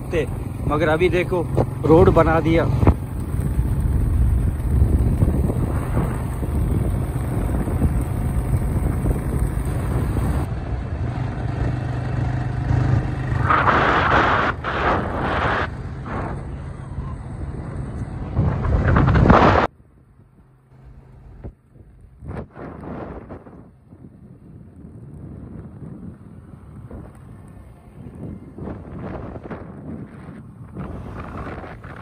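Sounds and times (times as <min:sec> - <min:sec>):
vehicle engine low hum: 0:00.0 - 0:32.0
wind rumbling on microphone: 0:00.0 - 0:32.0.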